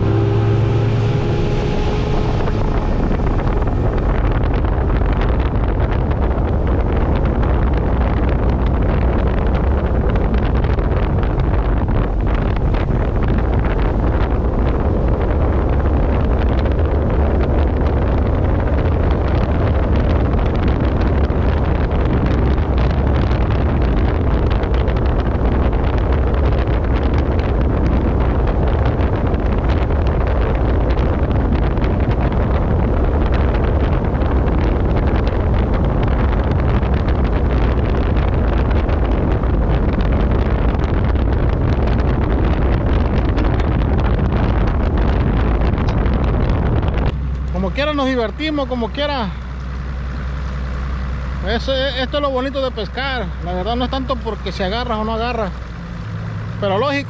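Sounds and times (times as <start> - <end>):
boat hull on water: 0.0 - 57.0
outboard motor: 0.0 - 57.0
wind on microphone: 0.0 - 57.0.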